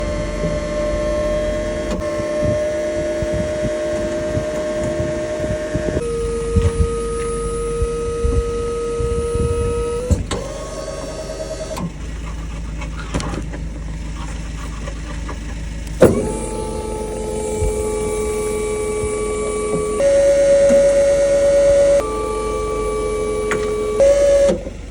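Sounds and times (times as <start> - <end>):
electric motor whining: 0.0 - 14.5, 15.3 - 24.9.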